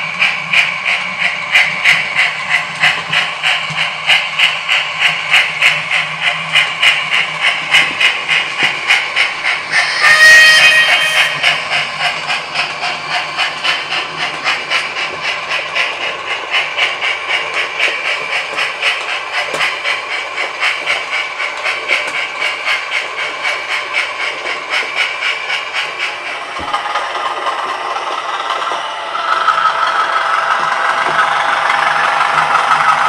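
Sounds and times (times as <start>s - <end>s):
steam locomotive chuffing with hiss: 0.0s - 33.0s.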